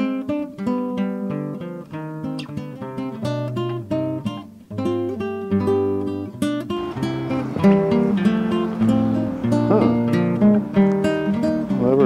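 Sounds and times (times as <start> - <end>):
acoustic guitar picked melody: 0.0 - 12.0.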